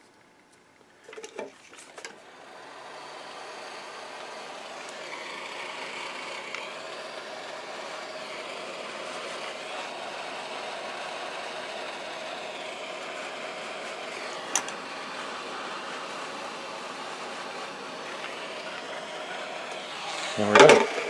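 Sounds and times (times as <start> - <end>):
heat gun blowing: 1.7 - 21.0.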